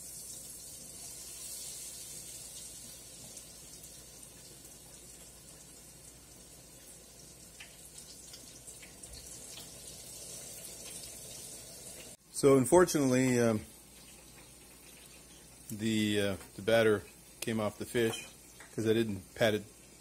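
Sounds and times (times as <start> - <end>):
oil bubbling and hissing: 0.0 - 12.3, 13.1 - 20.0
sharp crackles of frying: 0.0 - 12.3, 13.0 - 20.0.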